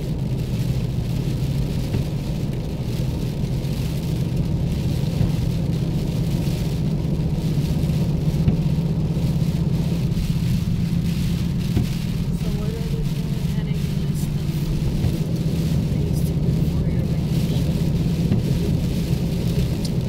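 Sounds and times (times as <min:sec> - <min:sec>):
car cabin drone: 0:00.0 - 0:20.0
tyres hissing on wet road: 0:00.0 - 0:20.0.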